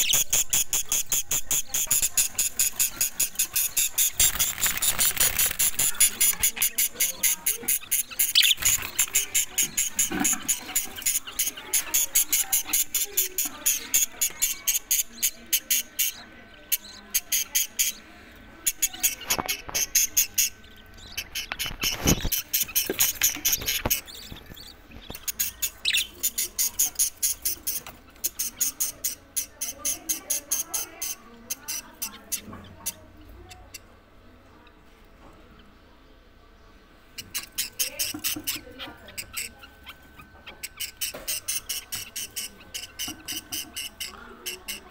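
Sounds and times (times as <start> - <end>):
parrot chicks begging calls: 0.0 - 34.8, 37.0 - 44.9.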